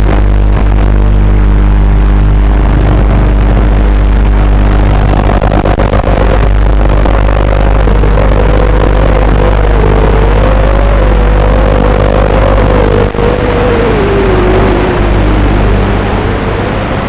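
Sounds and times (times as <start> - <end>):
quadcopter motors humming: 0.0 - 16.6
wavering motor whine: 0.0 - 17.0.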